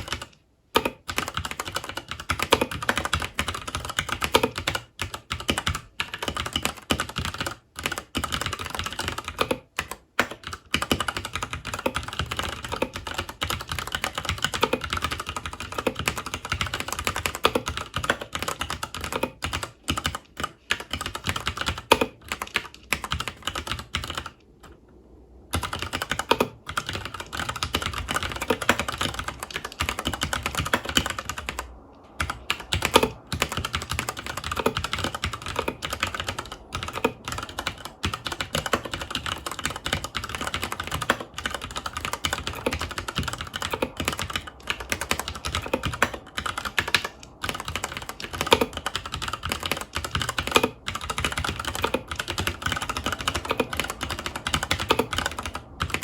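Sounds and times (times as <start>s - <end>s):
mechanical keyboard typing: 0.0s - 24.8s, 25.5s - 56.0s.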